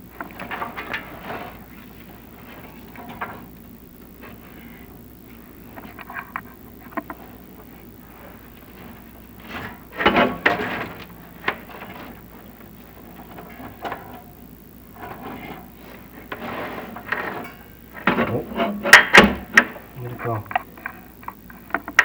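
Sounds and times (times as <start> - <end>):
cable scraping and knocking in flue: 0.0 - 22.0
faint steady hum: 0.0 - 22.0.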